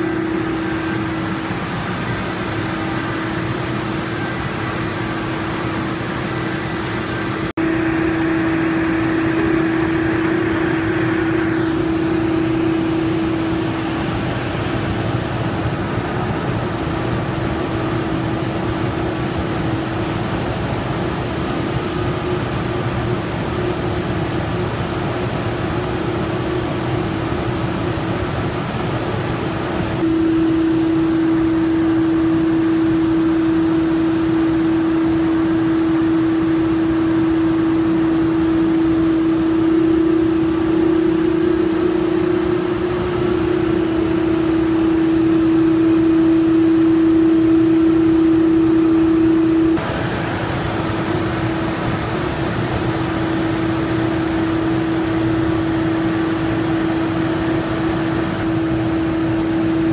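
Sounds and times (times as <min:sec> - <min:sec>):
faint falling whine: 0:00.0 - 0:59.9
industrial machinery humming: 0:00.0 - 0:59.9.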